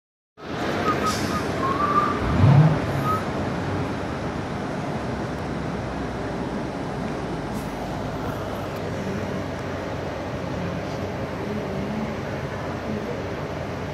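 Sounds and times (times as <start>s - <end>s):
low engine sound: 0.4s - 13.9s
traffic noise: 0.4s - 13.9s.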